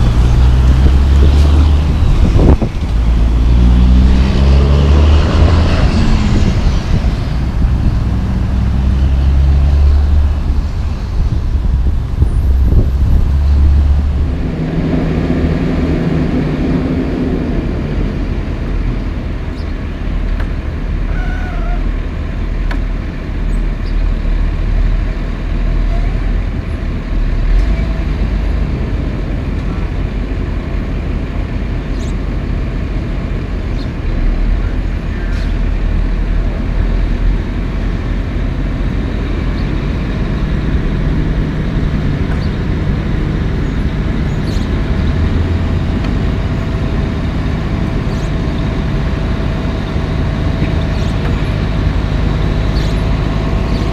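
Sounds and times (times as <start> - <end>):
deep steady hum: 0.0 - 53.9
diesel engine running: 0.0 - 53.9.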